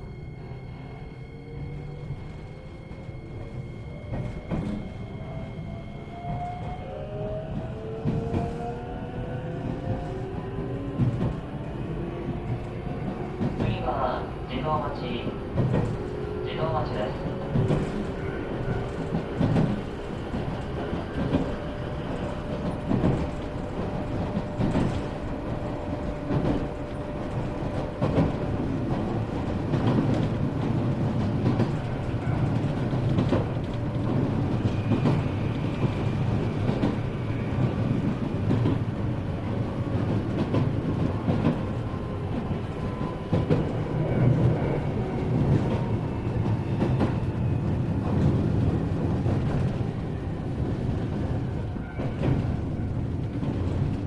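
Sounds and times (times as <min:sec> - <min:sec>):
train wheel and track rumble: 0:00.0 - 0:54.0.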